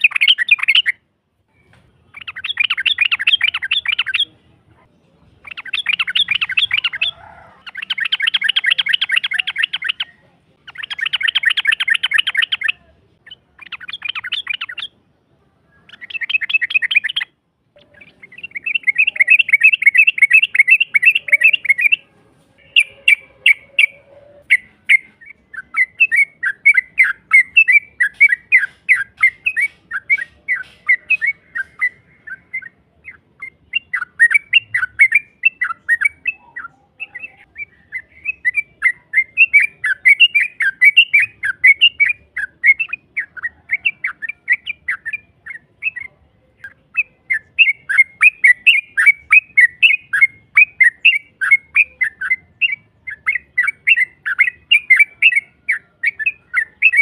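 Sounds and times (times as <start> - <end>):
bird rapid chattering song: 0.0 - 1.0, 1.6 - 15.0, 15.7 - 57.0.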